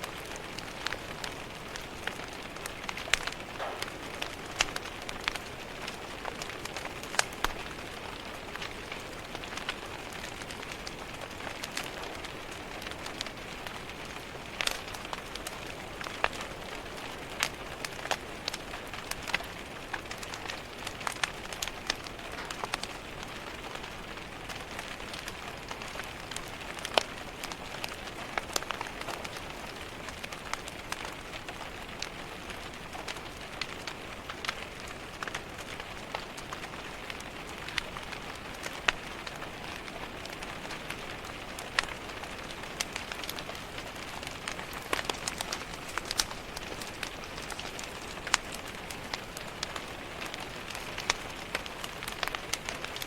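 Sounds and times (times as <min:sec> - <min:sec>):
fireplace fire crackling: 0:00.0 - 0:53.0
rain on a window pane: 0:00.0 - 0:53.0.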